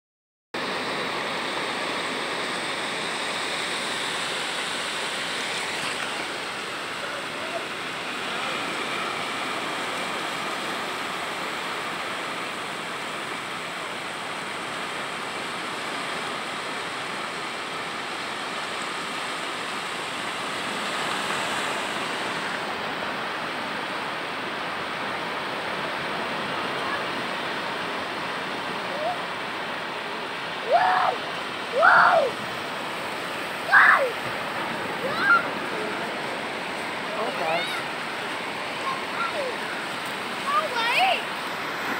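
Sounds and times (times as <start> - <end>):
surf washing over sand: 0.6 - 41.9.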